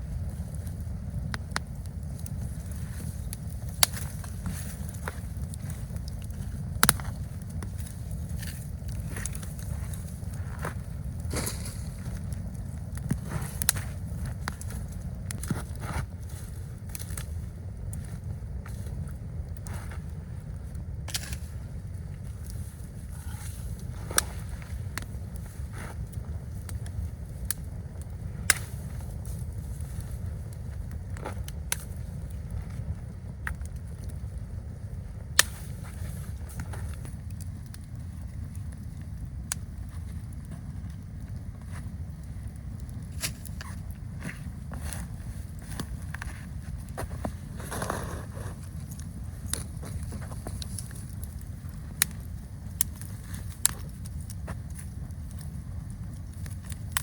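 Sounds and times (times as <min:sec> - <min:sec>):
campfire crackling: 0:00.0 - 0:57.0
low rumble of wind: 0:00.0 - 0:57.0.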